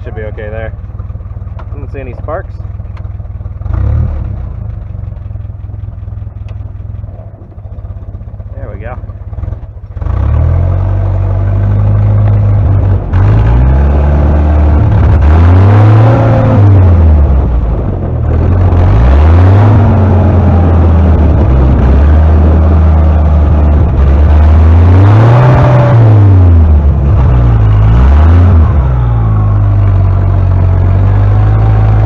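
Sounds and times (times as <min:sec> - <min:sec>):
jeep engine running: 0:00.0 - 0:32.0.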